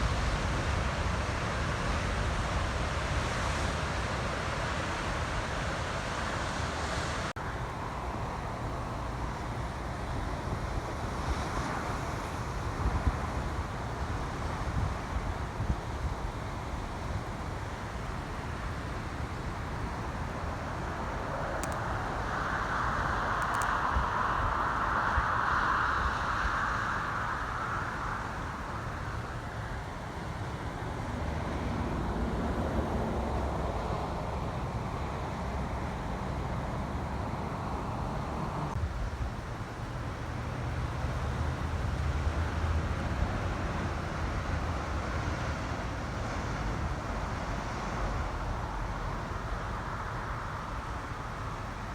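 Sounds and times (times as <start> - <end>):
vehicle road noise rumble: 0.0 - 51.9.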